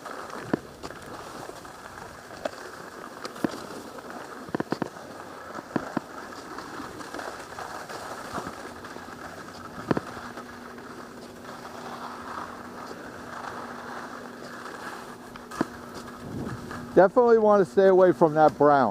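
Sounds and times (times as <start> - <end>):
edges scraping on hard snow: 0.0 - 18.9
low steady hum: 0.1 - 18.9.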